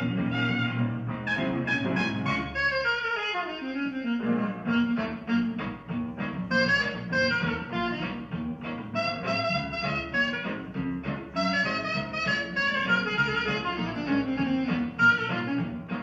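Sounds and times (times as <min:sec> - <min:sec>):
swing jazz band playing: 0:00.0 - 0:16.0.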